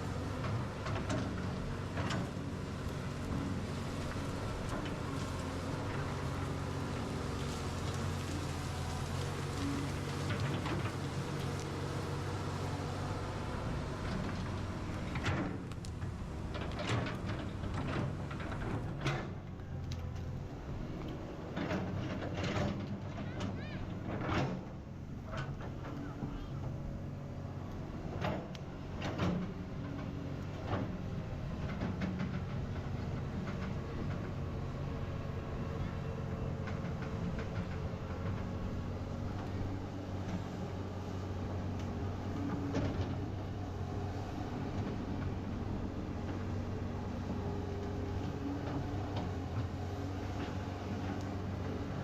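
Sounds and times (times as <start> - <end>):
excavator engine running: 0.0 - 52.0.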